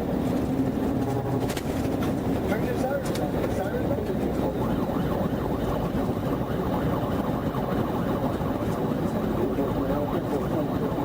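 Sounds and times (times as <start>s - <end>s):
car engine: 0.0s - 11.0s
road noise: 0.0s - 11.0s.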